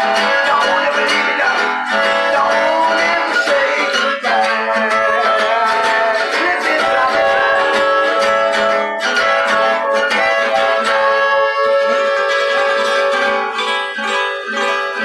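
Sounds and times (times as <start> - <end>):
acoustic guitar: 0.0 - 15.0
blues harmonica: 0.0 - 15.0.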